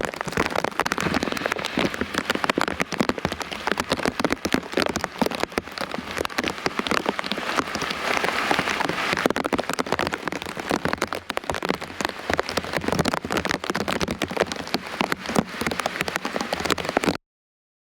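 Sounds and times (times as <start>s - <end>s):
heavy rain hissing: 0.0s - 17.2s
raindrops tapping: 0.0s - 17.2s.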